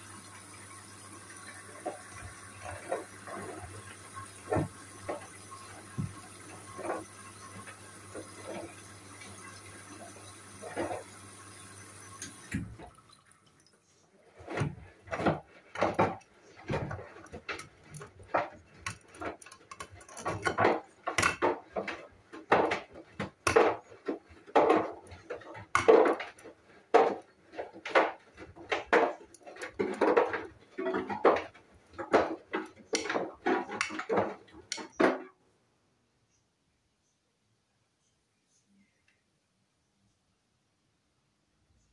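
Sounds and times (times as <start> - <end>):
laundry and water sloshing in drum: 0.0 - 35.3
washing machine filling with water: 0.0 - 35.3.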